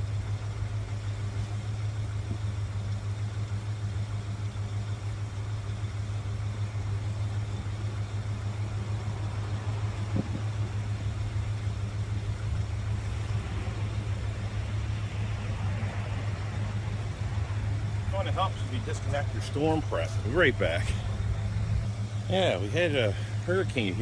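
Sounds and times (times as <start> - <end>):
car engine idling: 0.0 - 24.0
engine knock: 0.0 - 24.0.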